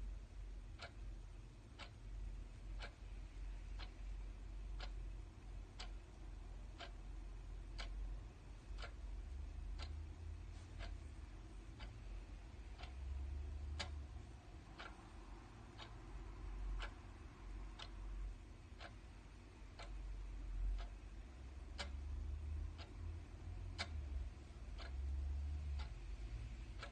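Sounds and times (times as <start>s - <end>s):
clock ticking: 0.0s - 26.9s
low background rumble: 0.0s - 26.9s.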